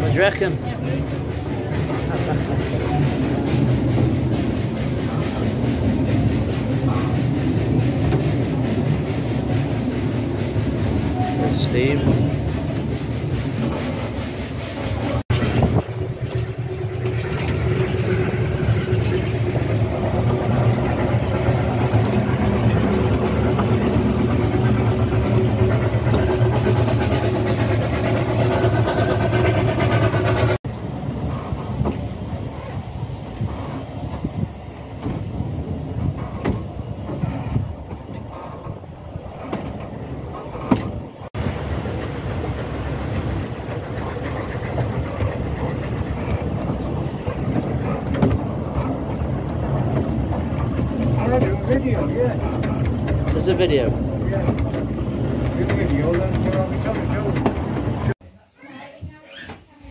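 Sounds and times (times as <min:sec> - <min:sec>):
train wheels rumbling and rattling: 0:00.0 - 0:58.2.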